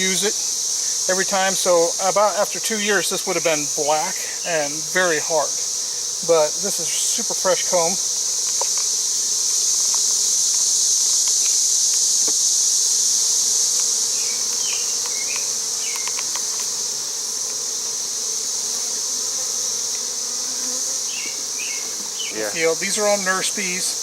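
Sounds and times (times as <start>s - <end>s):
bees buzzing: 0.0s - 24.0s
high-pitched insect drone: 0.0s - 24.0s.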